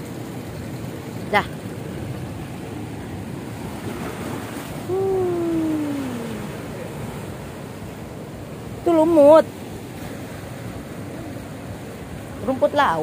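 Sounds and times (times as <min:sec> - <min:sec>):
ocean surf on rocky shore: 0:00.0 - 0:13.0.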